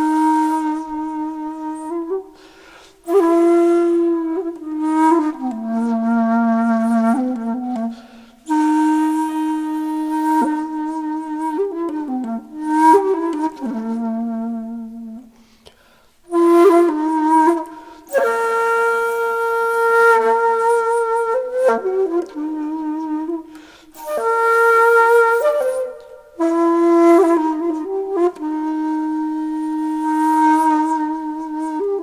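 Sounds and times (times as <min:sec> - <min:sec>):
solo flute melody: 0:00.0 - 0:15.6, 0:16.2 - 0:32.0.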